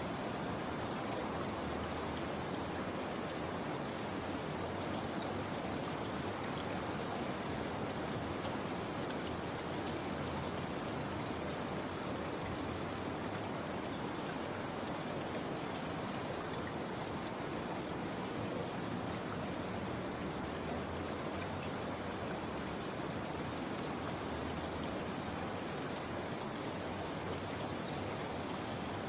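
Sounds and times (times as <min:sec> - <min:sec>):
steady rain patter: 0:00.0 - 0:29.0.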